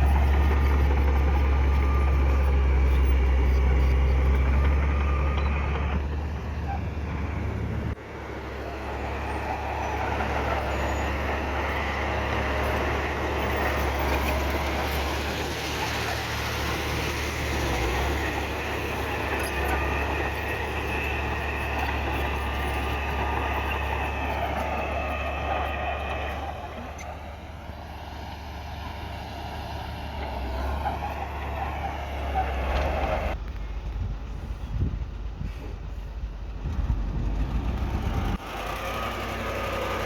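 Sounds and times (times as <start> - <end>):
heavy diesel machinery running: 0.0 - 40.0.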